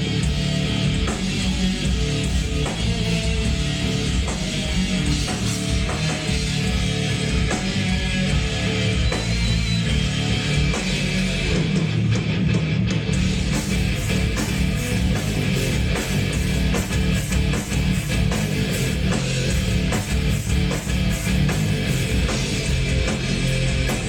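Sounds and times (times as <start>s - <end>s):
bass: 0.0s - 24.0s
drums: 0.0s - 24.0s
electric guitars strummed: 0.0s - 24.0s.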